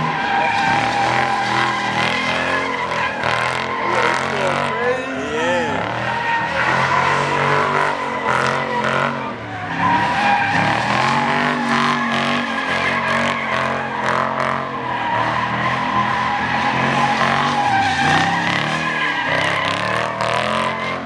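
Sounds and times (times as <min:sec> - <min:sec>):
car engine at high revs: 0:00.0 - 0:21.0
car tyres squealing: 0:00.0 - 0:21.0.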